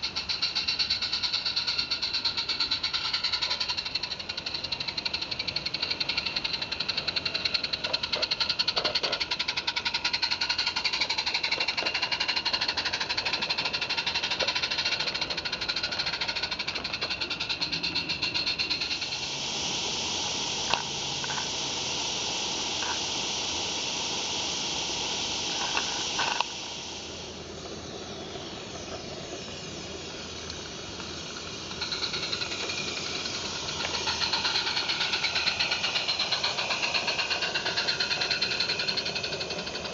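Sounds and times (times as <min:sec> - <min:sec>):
steam hiss: 0:00.0 - 0:39.9
steam locomotive running beat: 0:00.0 - 0:39.9.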